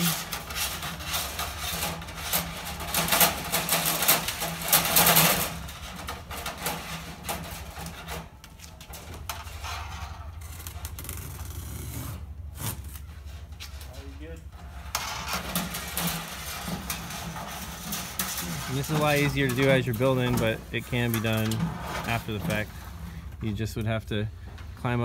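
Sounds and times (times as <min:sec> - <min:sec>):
fish tape rasping through metal: 0:00.0 - 0:23.3
low steady rumble: 0:00.0 - 0:25.0.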